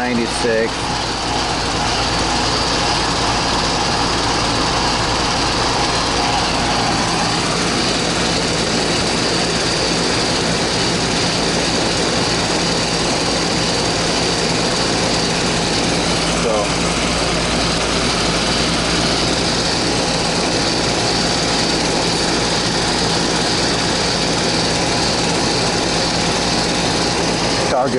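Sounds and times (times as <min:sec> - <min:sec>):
air conditioner humming: 0:00.0 - 0:27.9.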